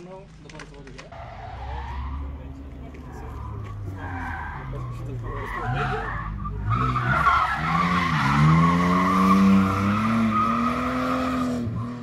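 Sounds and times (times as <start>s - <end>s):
car engine revving: 1.1s - 12.0s
tyres squealing: 1.2s - 11.3s.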